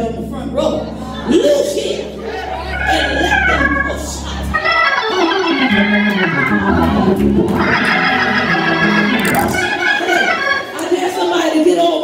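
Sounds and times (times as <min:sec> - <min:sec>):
organ chords with bass line: 0:00.0 - 0:10.7.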